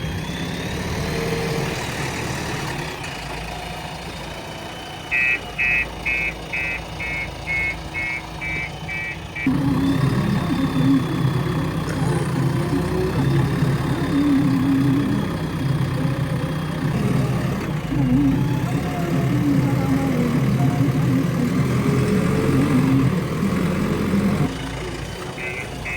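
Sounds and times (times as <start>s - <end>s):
backhoe diesel engine working: 0.0s - 25.9s
reversing alarm beeping: 4.1s - 25.9s.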